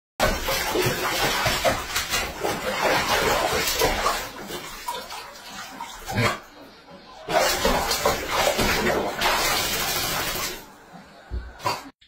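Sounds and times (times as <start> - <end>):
bathwater splashing in a tub: 0.2 - 12.0.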